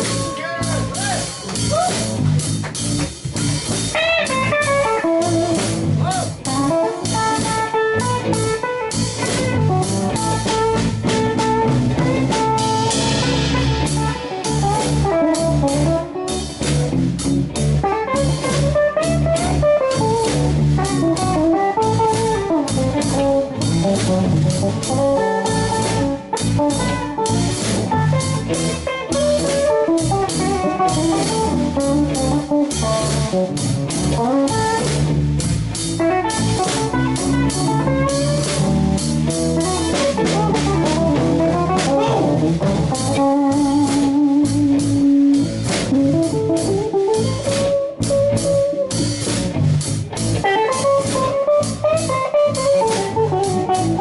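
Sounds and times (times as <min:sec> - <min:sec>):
drum kit: 0:00.0 - 0:54.0
electric guitar lead: 0:00.0 - 0:54.0.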